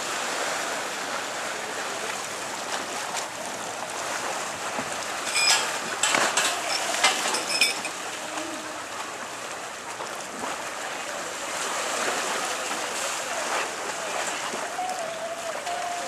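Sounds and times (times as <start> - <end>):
water: 0.0 - 16.0
wind: 0.0 - 16.0.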